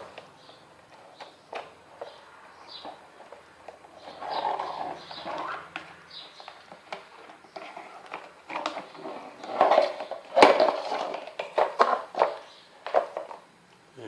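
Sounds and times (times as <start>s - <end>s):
plastic knocks clicks and rattles: 0.0s - 13.4s.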